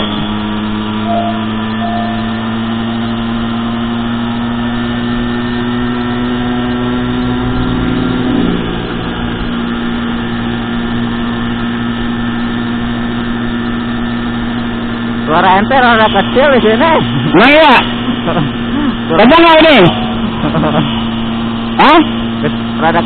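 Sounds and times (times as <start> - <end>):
road and wind noise: 0.0 - 23.0
small motorcycle engine running: 0.0 - 23.0.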